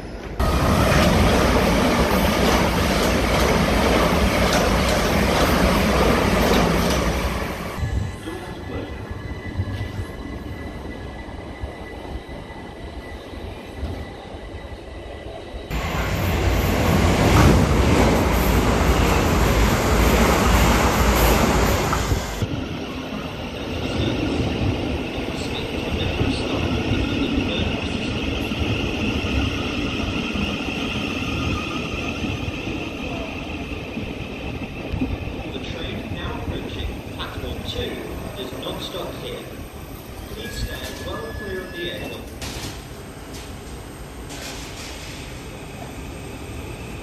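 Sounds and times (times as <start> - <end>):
train rolling with high whine: 0.0 - 47.0.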